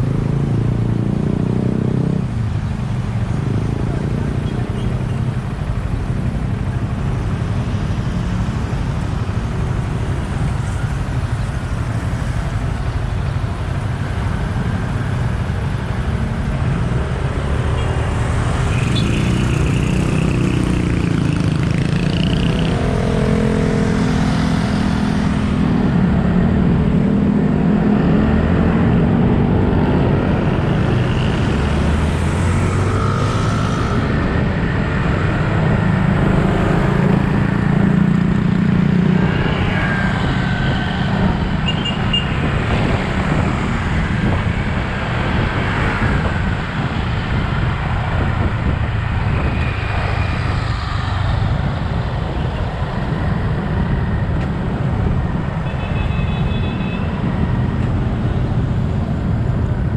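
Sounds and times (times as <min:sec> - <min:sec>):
surrounding traffic: 0:00.0 - 0:59.9
wind and road noise: 0:00.0 - 0:59.9.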